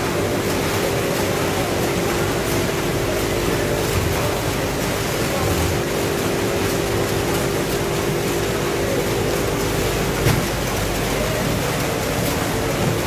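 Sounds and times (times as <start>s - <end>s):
packaging machines humming: 0.0s - 13.0s.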